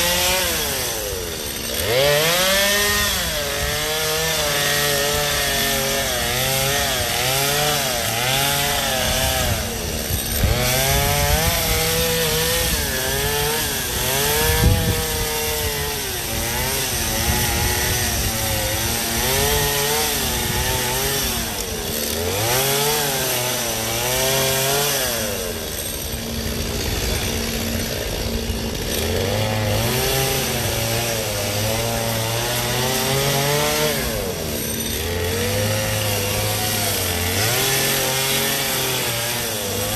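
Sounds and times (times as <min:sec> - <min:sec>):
chainsaw cutting ice: 0:00.0 - 0:39.9.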